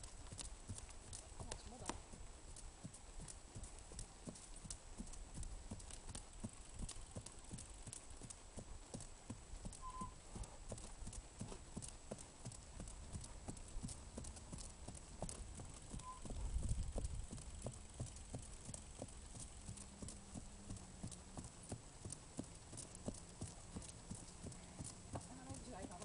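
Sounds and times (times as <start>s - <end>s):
horse hooves trotting on dirt: 0.0s - 26.0s.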